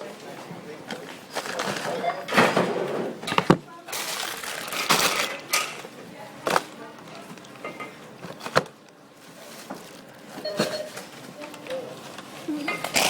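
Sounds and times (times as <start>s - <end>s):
faint background chatter: 0.0s - 13.0s
groceries knocking and clattering: 0.8s - 13.0s.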